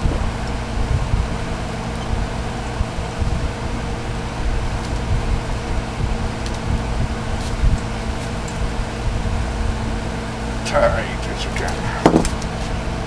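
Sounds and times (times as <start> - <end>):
low hum of room noise: 0.0 - 13.0.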